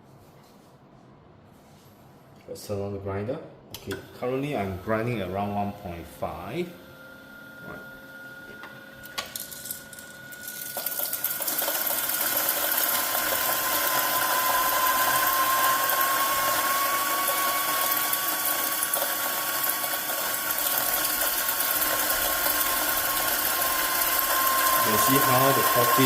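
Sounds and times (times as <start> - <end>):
coffee grinder motor grinding: 4.6 - 26.0.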